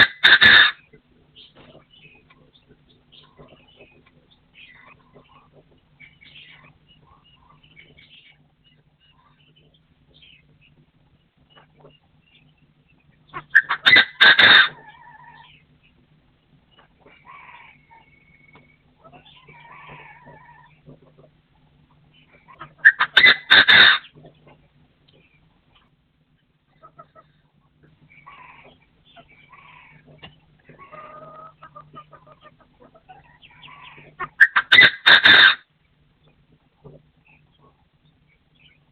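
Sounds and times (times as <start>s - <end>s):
partridge calling: 0.0s - 16.0s, 16.6s - 36.4s.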